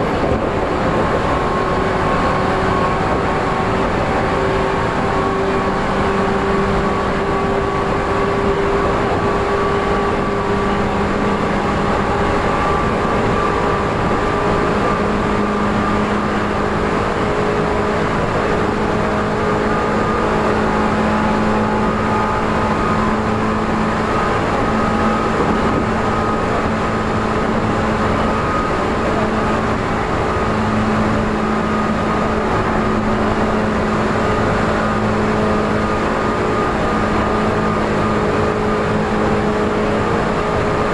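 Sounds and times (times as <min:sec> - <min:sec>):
electric train motor whine: 0:00.0 - 0:40.9
wheel and rail rumble: 0:00.0 - 0:40.9.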